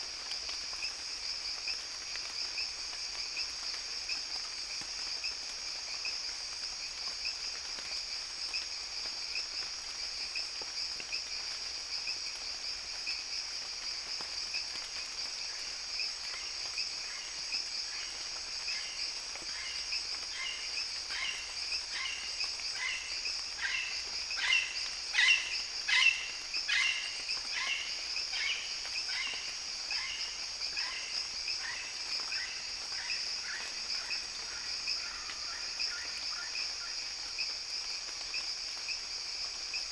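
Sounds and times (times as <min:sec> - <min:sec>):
insects droning: 0:00.1 - 0:39.9.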